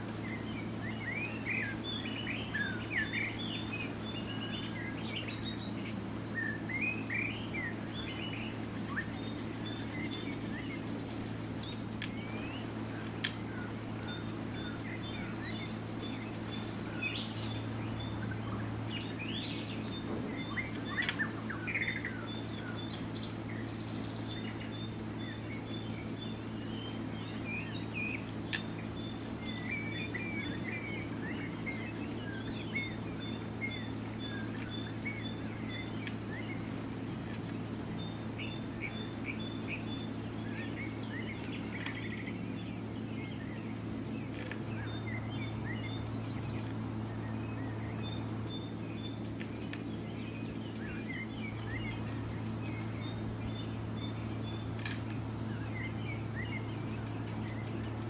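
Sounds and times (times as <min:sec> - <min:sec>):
birds chirping and singing: 0:00.0 - 0:58.0
steady low hum: 0:00.0 - 0:58.0.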